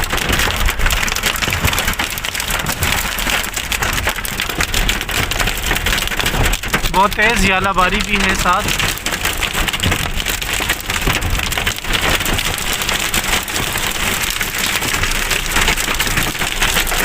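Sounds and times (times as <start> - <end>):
rain and hail on a car: 0.0 - 17.0.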